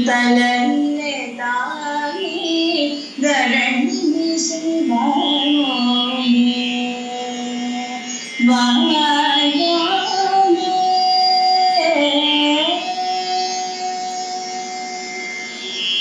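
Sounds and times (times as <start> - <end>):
wordless devotional singing: 0.0 - 16.0.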